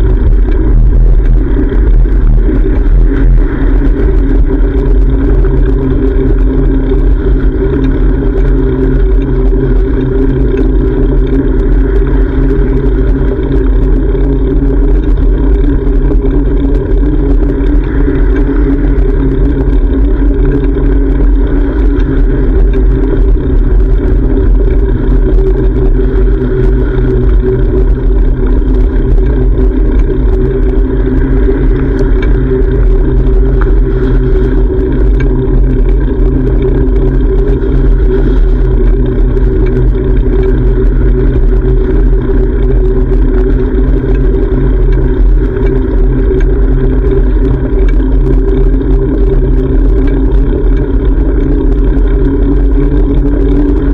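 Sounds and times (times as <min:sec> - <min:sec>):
wind noise: 0:00.0 - 0:53.9.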